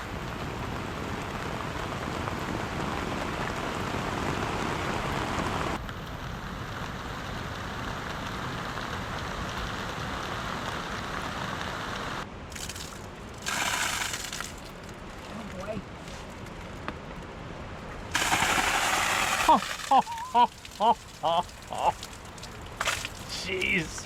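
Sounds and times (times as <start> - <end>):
heavy rain hissing: 0.0 - 14.7, 18.0 - 24.0.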